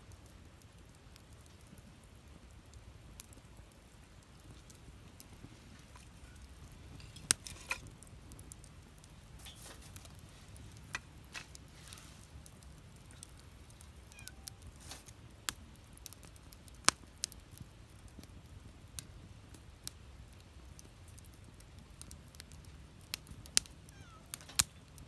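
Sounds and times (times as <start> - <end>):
sharp pops of fire: 0.0 - 25.0
wood fire crackling: 0.0 - 25.0
fire hissing: 0.6 - 25.0.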